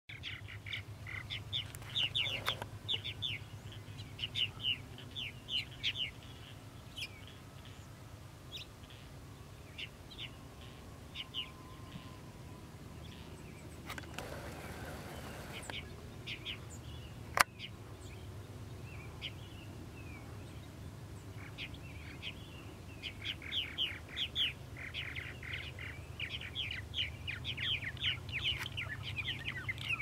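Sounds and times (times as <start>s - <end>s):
birds chirping: 0.1s - 9.1s, 9.7s - 30.0s.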